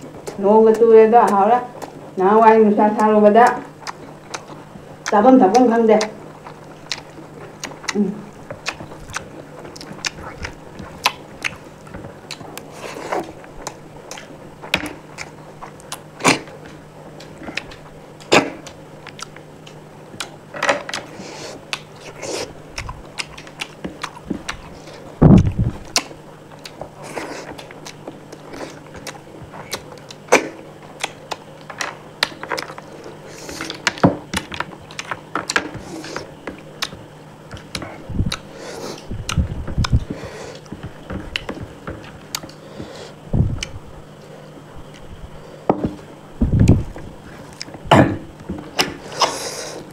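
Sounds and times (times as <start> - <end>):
person chewing: 0.0 - 2.2, 3.0 - 47.9, 48.6 - 49.9
faint low hum: 0.0 - 49.9.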